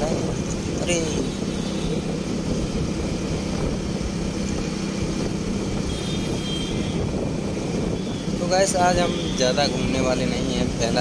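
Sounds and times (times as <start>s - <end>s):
motorcycle engine humming: 0.0s - 11.0s
road and wind noise: 0.0s - 11.0s.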